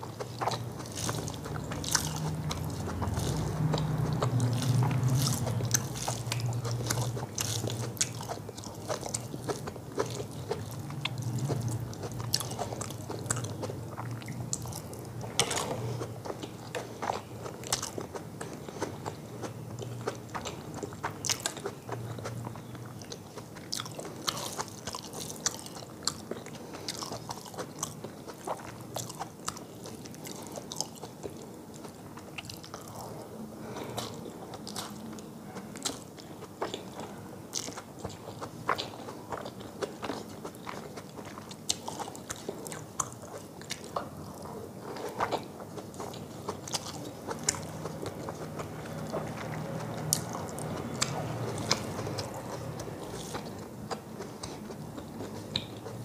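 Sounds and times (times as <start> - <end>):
mouth chewing: 0.0 - 56.0.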